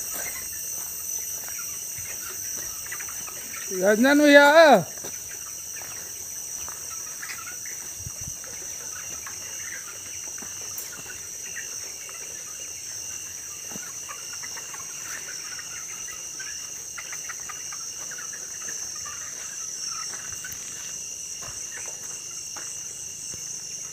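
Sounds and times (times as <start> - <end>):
chickens peeping and clucking: 0.0 - 23.9
insects droning: 0.0 - 23.9.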